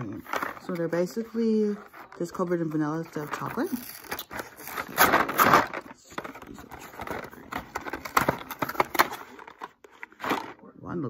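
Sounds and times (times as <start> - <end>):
cardboard box tearing: 0.2 - 10.6
cardboard clicks and scrapes: 0.2 - 10.6.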